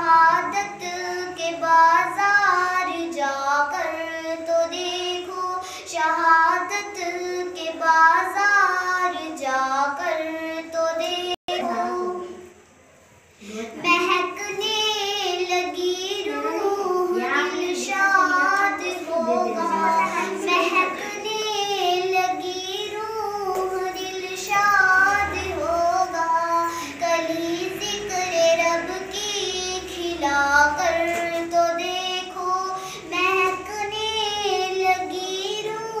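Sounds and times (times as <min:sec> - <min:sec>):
girl singing devotional song: 0:00.0 - 0:12.6, 0:13.3 - 0:36.0.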